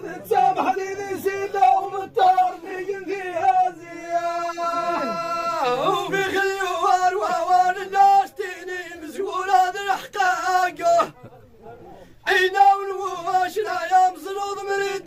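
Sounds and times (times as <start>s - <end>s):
man chanting sung verse: 0.0s - 11.2s, 12.2s - 15.0s.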